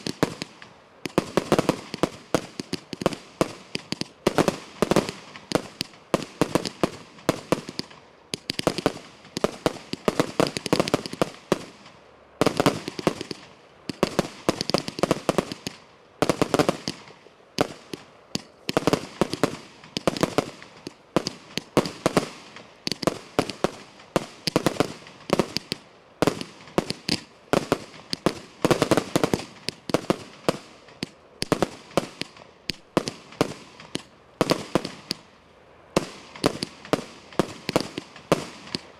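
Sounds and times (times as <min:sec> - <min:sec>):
firework cake sharp bangs: 0:00.0 - 0:35.3, 0:36.0 - 0:38.9.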